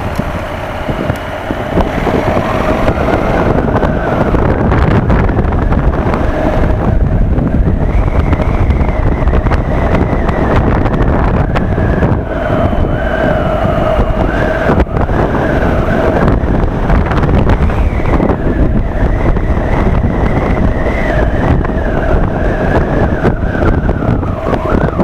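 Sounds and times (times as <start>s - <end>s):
motorcycle engine: 0.0s - 23.1s
wind buffeting microphone: 0.0s - 25.0s.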